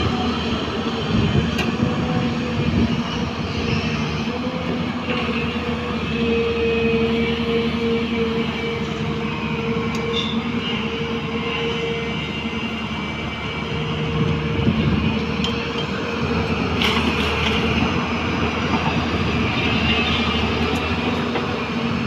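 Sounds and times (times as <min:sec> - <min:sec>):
excavator diesel engine under load: 0:00.0 - 0:22.0
hydraulic whine: 0:00.0 - 0:22.0.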